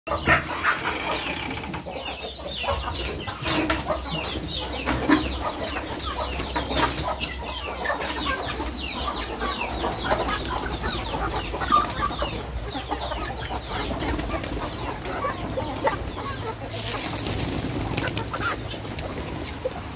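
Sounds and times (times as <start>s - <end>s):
chickens clucking: 0.1s - 19.9s.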